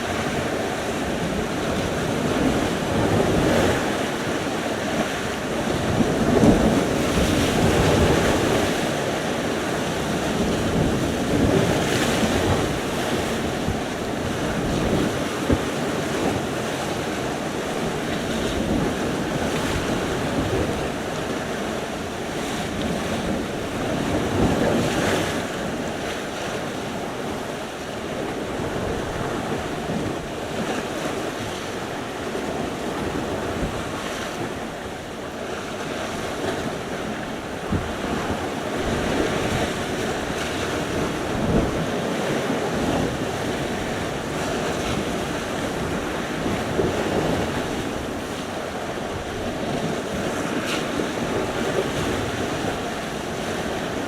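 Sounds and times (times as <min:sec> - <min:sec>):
waves breaking: 0:00.0 - 0:54.0
wind buffeting microphone: 0:00.0 - 0:54.0.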